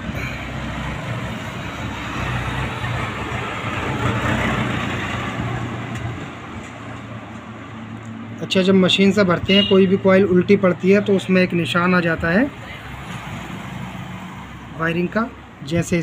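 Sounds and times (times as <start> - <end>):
passing vehicle engine and road noise: 0.0 - 16.0.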